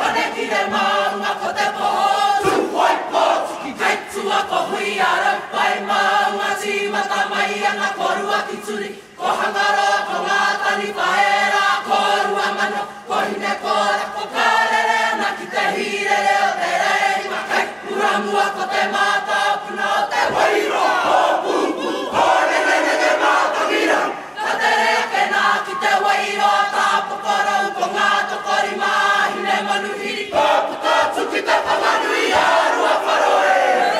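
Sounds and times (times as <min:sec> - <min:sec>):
group singing in unison: 0:00.0 - 0:33.9.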